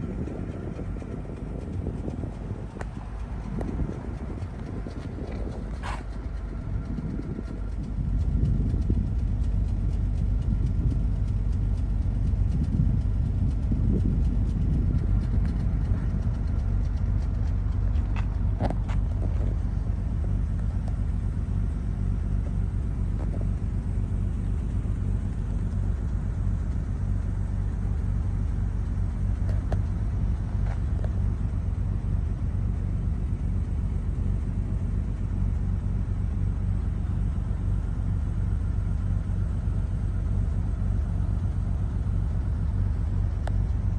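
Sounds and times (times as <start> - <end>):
car engine rumble: 0.0 - 43.9.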